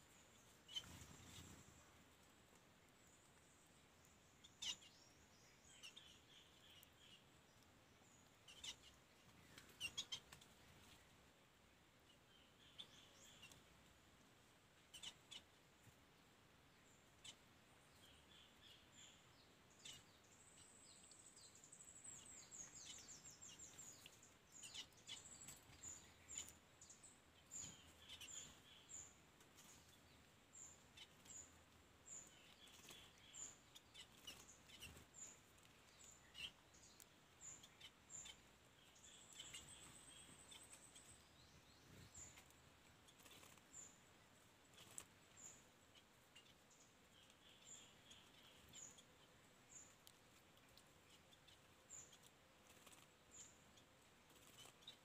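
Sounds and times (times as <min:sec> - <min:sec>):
low background hiss: 0:00.0 - 0:55.0
bird chirps and twittering: 0:00.1 - 0:02.0, 0:03.2 - 0:11.1, 0:12.2 - 0:13.7, 0:14.9 - 0:15.5, 0:18.0 - 0:55.0.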